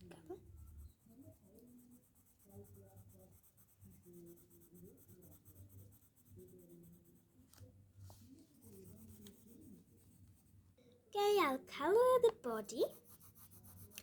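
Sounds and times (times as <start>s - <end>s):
pencil scratching on paper: 0.0s - 10.6s, 11.9s - 14.0s.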